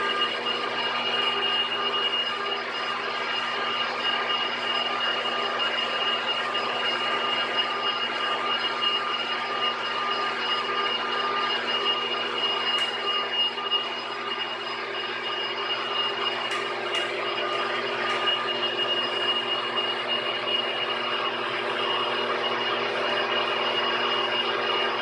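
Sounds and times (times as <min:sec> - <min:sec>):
machine tool humming and whining: 0:00.0 - 0:25.0.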